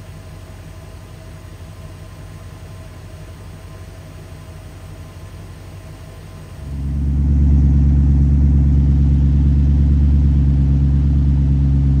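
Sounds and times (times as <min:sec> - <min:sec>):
engine idling with deep drone: 0:00.0 - 0:12.0.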